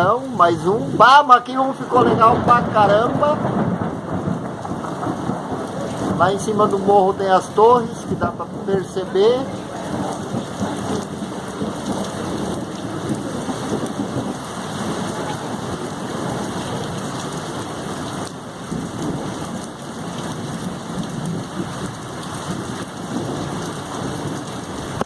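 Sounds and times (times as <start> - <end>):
heavy rain falling: 0.0 - 25.0
thunder rumbling: 0.0 - 25.0.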